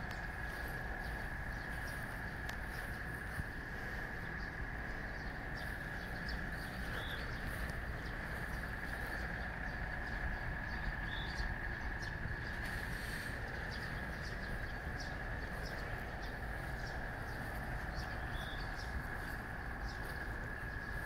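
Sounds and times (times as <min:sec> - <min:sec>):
cicadas buzzing: 0:00.0 - 0:21.0
low rumble: 0:00.0 - 0:21.0.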